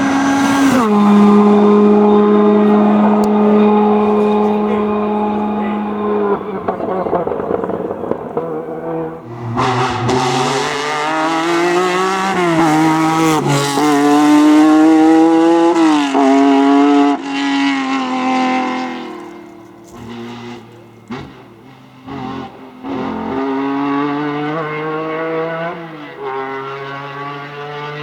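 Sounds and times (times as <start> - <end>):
rally car engine accelerating: 0.0 - 28.0.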